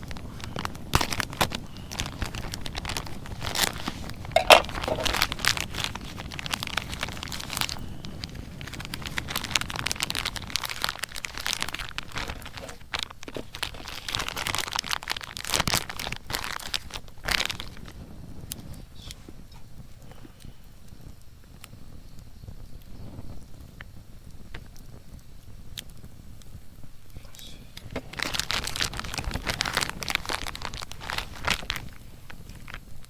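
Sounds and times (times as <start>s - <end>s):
crinkling and rustling handling: 0.0s - 22.0s, 25.9s - 33.0s.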